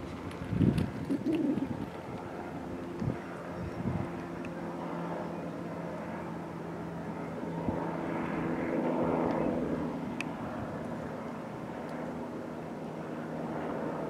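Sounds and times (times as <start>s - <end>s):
distant helicopter engine and rotor hum: 0.0s - 14.0s.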